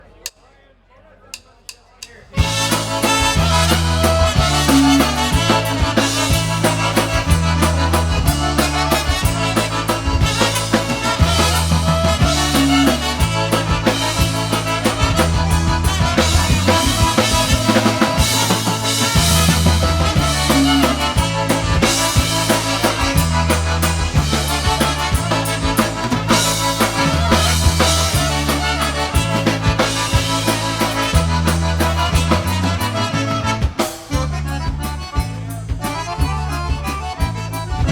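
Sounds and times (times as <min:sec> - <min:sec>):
polka band playing: 0:02.3 - 0:37.9.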